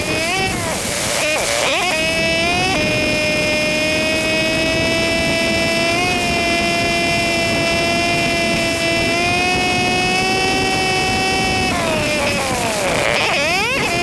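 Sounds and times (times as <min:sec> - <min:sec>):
sped-up motorcycle engine whine: 0:00.0 - 0:14.0.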